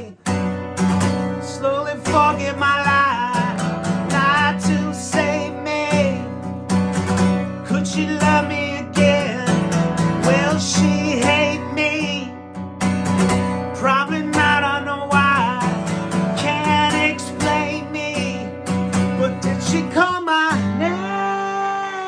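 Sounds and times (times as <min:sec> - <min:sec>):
man singing: 0:00.0 - 0:12.6, 0:13.4 - 0:22.0
acoustic guitar strumming: 0:00.0 - 0:22.0.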